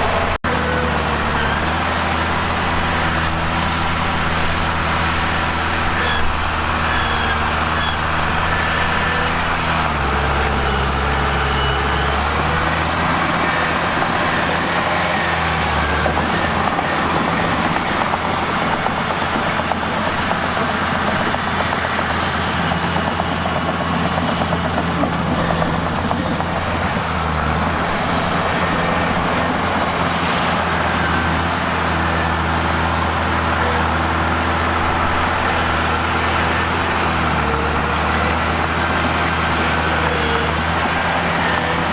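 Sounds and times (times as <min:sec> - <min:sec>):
bulldozer diesel engine running: 0:00.0 - 0:41.9.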